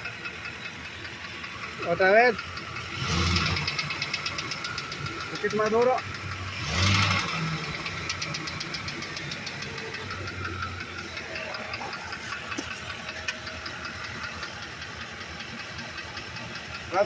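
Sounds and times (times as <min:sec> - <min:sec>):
engine idling with fast ticking: 0:00.0 - 0:17.0
engine revving: 0:00.0 - 0:17.0.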